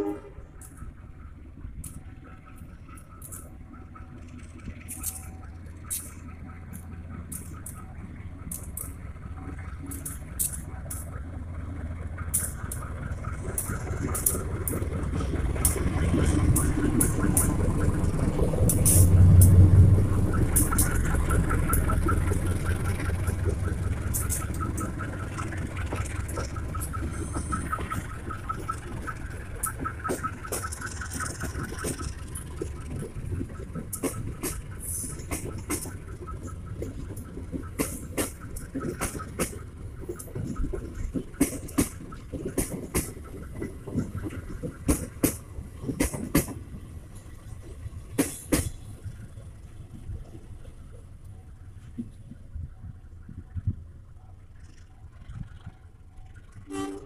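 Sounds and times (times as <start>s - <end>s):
train coaches rumbling past: 0.0s - 57.0s.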